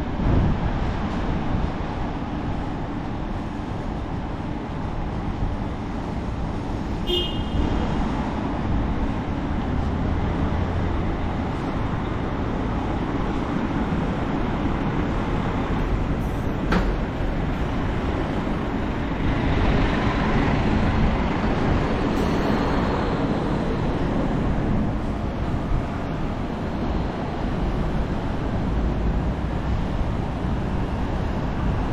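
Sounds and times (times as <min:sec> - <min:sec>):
city street traffic: 0:00.0 - 0:31.9.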